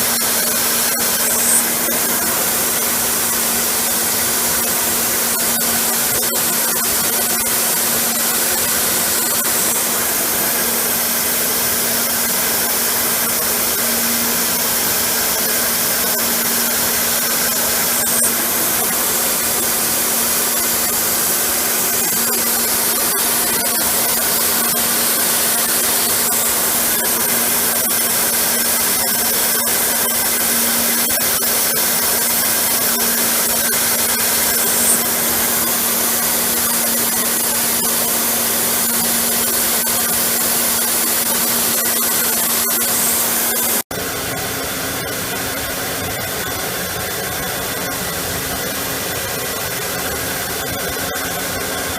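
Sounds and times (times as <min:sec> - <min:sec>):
milling machine whirring hiss: 0:00.0 - 0:51.9.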